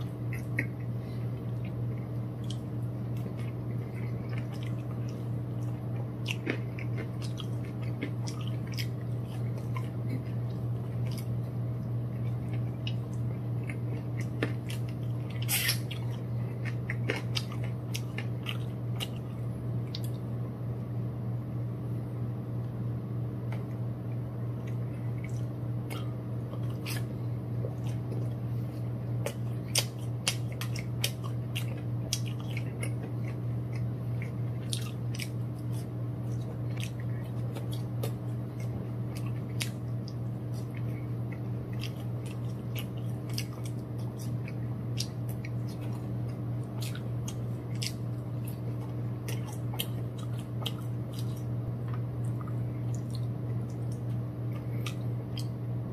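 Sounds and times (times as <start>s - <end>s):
person chewing crunchy food: 0.0s - 20.3s, 24.6s - 55.8s
steady low hum: 0.0s - 55.9s.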